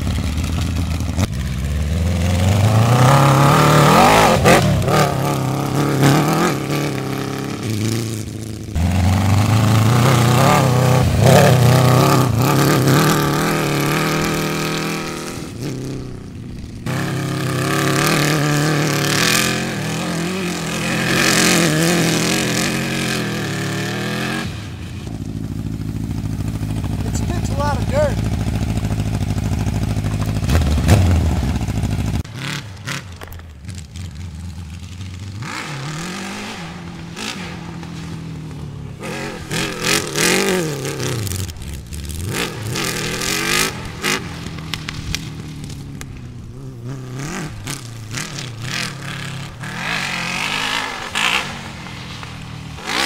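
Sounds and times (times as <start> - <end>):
buggy engine revving hard: 0.0 - 33.2, 35.1 - 45.8, 46.4 - 53.0.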